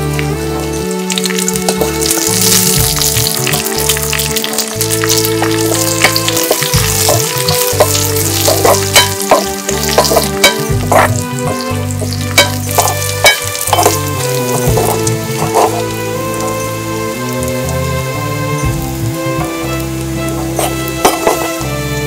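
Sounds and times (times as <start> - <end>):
oil popping and crackling: 0.0 - 22.0
spices sizzling in hot oil: 0.0 - 22.0.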